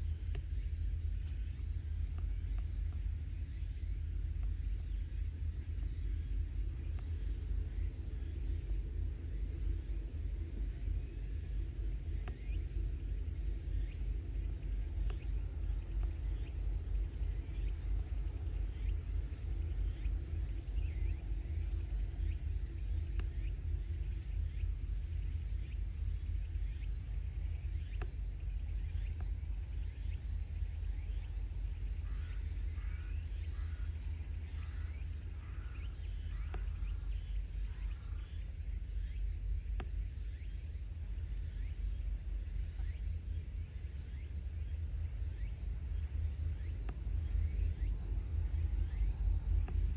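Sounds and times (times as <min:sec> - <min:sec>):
high insect buzz: 0:00.0 - 0:49.9.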